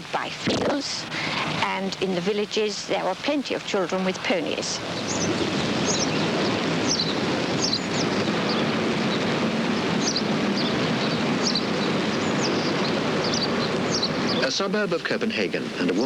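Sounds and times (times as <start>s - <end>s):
small birds chirping: 0.0s - 16.0s
steady rushing background noise: 0.0s - 16.0s.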